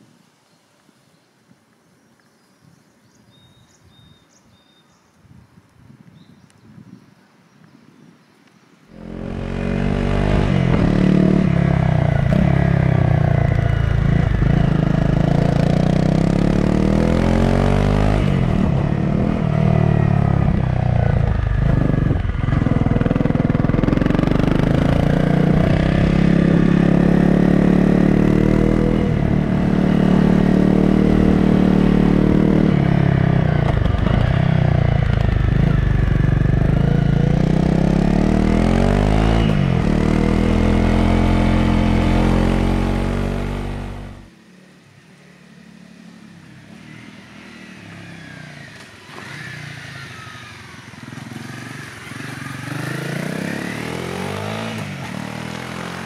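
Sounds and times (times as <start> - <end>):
motorcycle engine revving: 8.9 - 44.3, 45.6 - 56.0.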